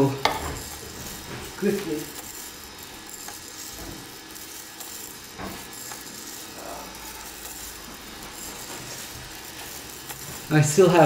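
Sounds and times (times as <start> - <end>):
beans rattling in roaster drum: 0.0 - 11.0.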